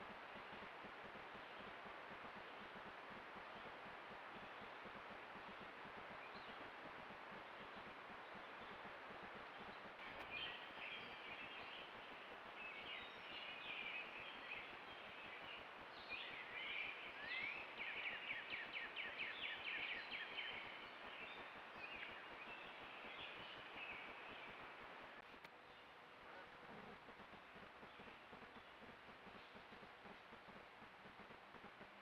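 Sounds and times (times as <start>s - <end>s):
songbirds chirping: 0.0s - 32.0s
steady outdoor hiss: 0.0s - 32.0s.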